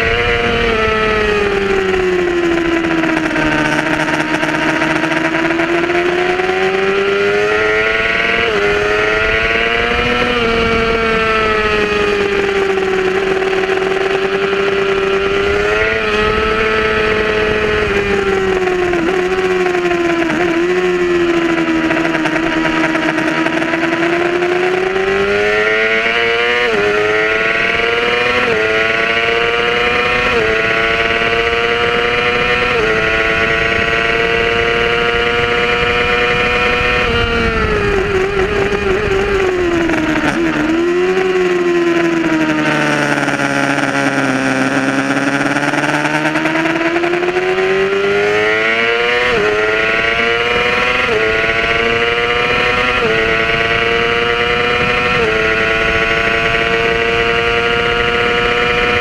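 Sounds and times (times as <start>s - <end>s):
motorcycle engine revving: 0.0s - 59.0s
wind noise: 0.0s - 59.0s.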